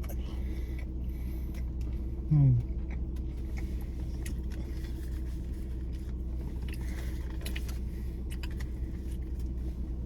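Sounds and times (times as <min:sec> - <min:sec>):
low background hum: 0:00.0 - 0:10.0
person chewing: 0:00.0 - 0:10.0.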